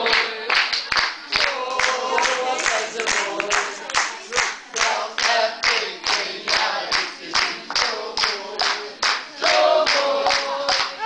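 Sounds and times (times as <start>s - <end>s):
rhythmic clapping: 0.0s - 11.0s.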